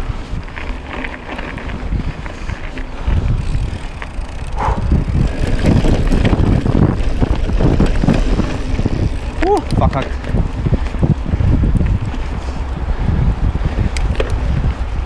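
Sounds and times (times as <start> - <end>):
bike knocking on bumpy trail: 0.0 - 15.0
bike rattling: 0.0 - 15.0
bike tyre rumble: 0.0 - 15.0
wind on microphone: 0.0 - 15.0.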